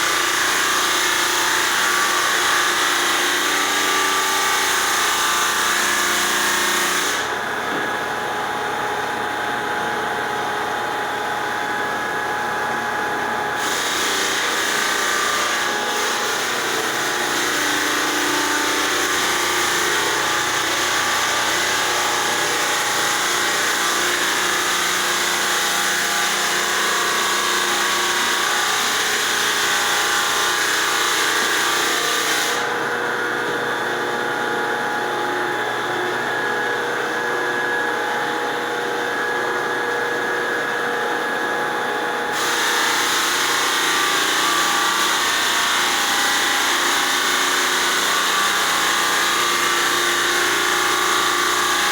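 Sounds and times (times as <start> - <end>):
floor sander motor hum: 0.0 - 51.9.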